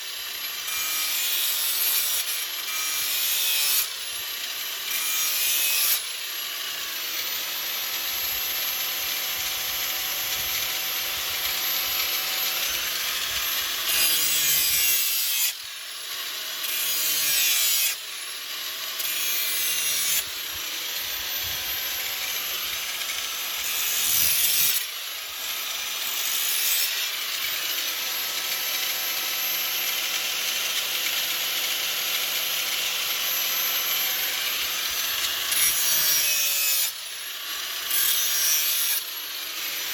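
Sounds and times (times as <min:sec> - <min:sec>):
electric grinder grinding steel: 0:00.0 - 0:39.9.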